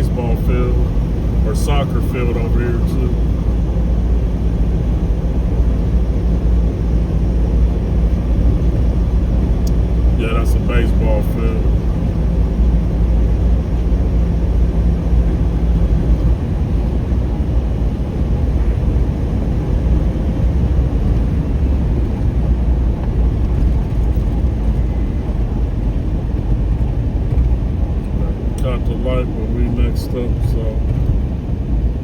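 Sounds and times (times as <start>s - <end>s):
engine and tyre road rumble: 0.0s - 32.0s
low hum: 0.0s - 32.0s.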